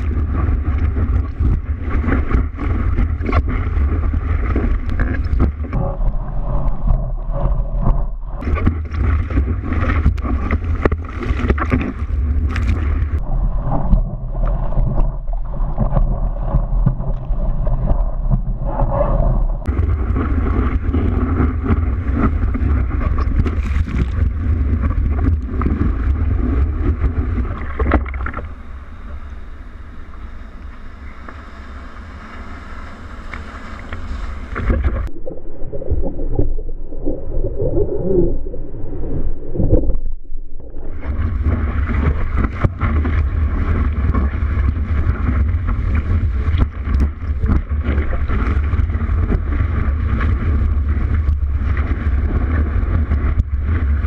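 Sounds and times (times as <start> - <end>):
water sloshing and splashing: 0.0 - 29.3, 31.2 - 36.6, 39.6 - 54.0
microphone buffeting: 0.0 - 29.5, 30.1 - 35.2, 40.8 - 54.0.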